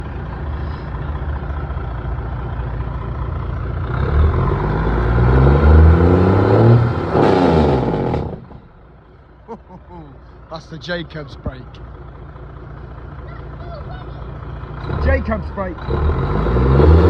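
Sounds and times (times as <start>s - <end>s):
truck diesel engine revving: 0.0s - 9.1s, 10.3s - 17.0s.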